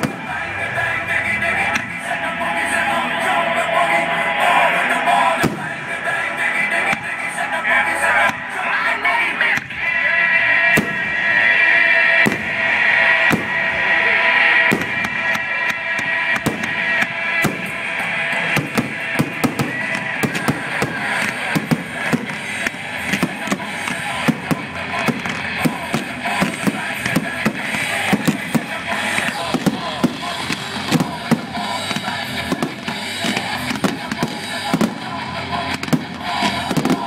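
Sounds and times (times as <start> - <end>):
fireworks banging and crackling: 0.0 - 2.1, 4.3 - 8.6, 9.4 - 37.0
music playing: 0.0 - 37.0.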